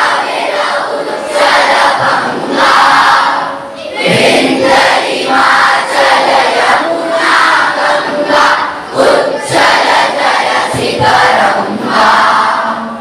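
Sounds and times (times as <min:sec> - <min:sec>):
crowd of boys shouting and cheering: 0:00.0 - 0:13.0.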